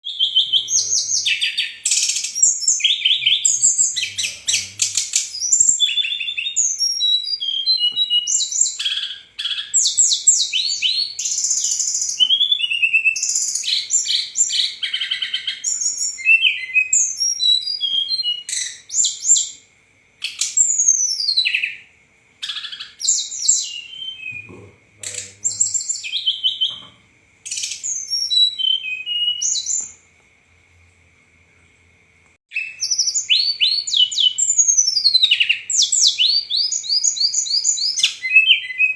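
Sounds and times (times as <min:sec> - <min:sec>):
bird singing chirps and trills: 0:00.0 - 0:30.0, 0:32.5 - 0:38.9.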